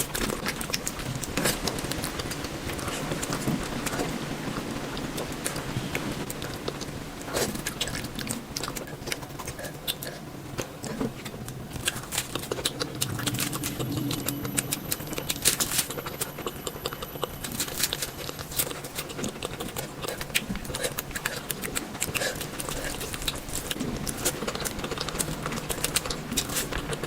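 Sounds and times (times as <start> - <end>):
biting and chewing: 0.0 - 27.0.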